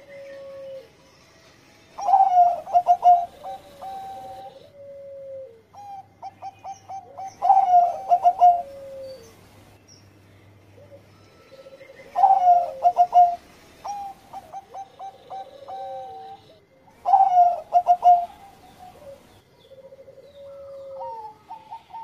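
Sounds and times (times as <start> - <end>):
dove cooing: 0.0 - 1.0, 2.0 - 9.4, 10.8 - 22.0.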